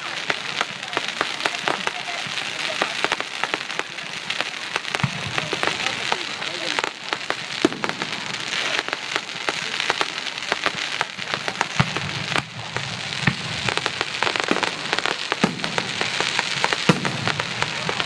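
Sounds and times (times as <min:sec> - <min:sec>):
fireworks crackling: 0:00.0 - 0:18.0
fireworks sharp bangs: 0:00.0 - 0:18.0.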